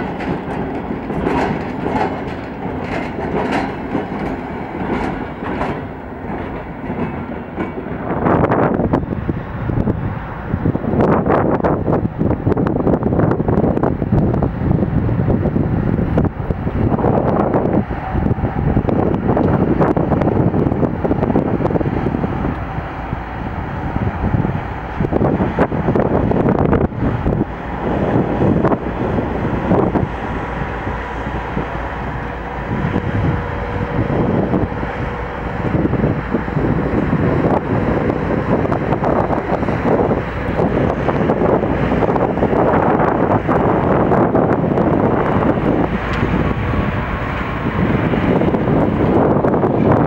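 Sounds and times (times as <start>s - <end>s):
diesel locomotive engine: 0.0s - 50.0s
freight train rumble: 0.0s - 50.0s
wind buffeting microphone: 0.0s - 50.0s.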